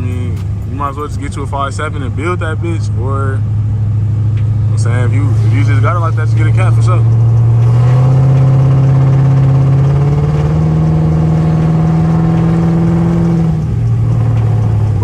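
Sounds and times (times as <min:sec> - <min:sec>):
car engine drone while driving: 0:00.0 - 0:15.0.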